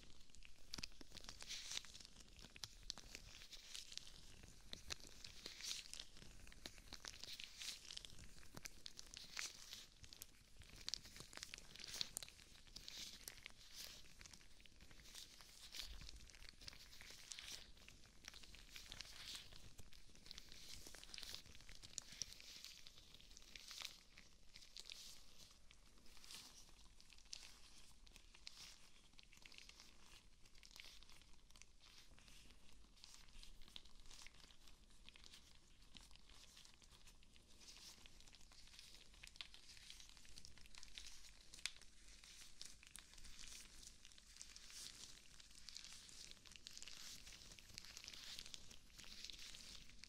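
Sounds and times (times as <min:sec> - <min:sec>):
rubber gloves rustling and crinkling: 0:00.0 - 0:50.0.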